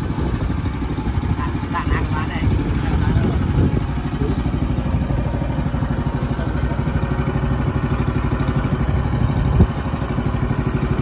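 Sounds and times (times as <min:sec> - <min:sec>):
small boat engine chugging: 0:00.0 - 0:11.0.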